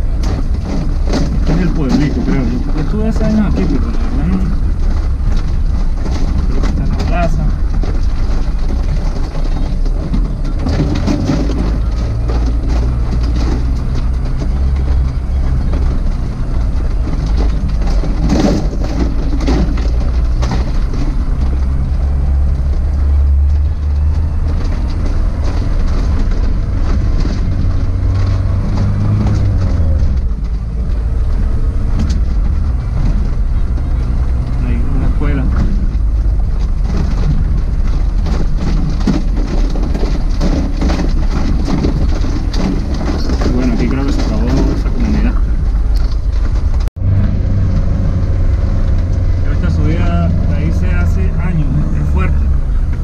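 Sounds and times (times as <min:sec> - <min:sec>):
engine drone: 0:00.0 - 0:53.0
knocks and rattles from bumps: 0:00.0 - 0:53.0.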